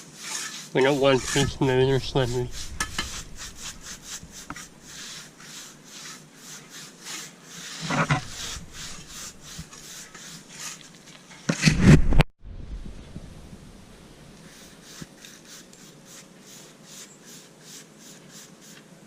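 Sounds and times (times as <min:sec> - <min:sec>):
brush scratching on cement: 0:00.0 - 0:11.3, 0:14.4 - 0:18.8.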